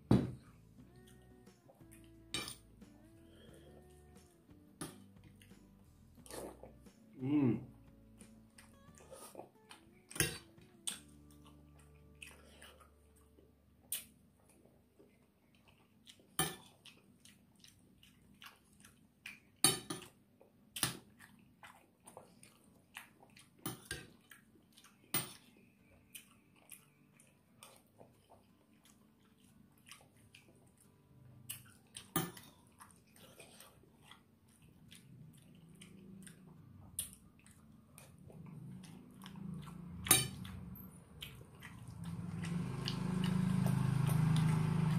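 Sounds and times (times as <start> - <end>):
soft chewing: 0.4 - 44.9.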